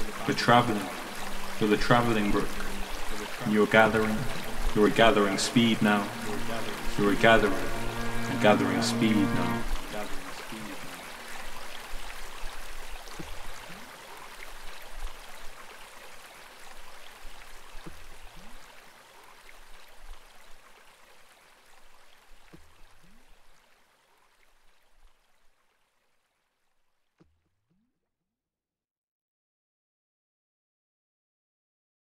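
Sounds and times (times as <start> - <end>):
babbling brook water: 0.0 - 25.9.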